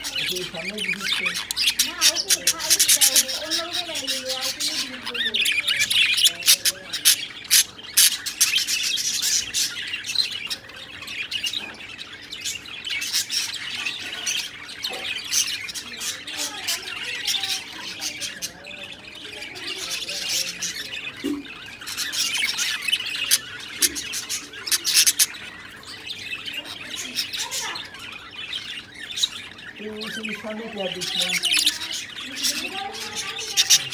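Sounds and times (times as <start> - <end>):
budgerigars chirping and squawking: 0.0 - 33.9.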